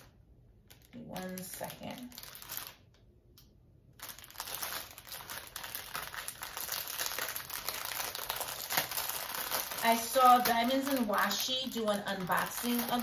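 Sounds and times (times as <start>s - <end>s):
plastic bags crinkling: 0.0s - 3.0s, 3.9s - 13.0s.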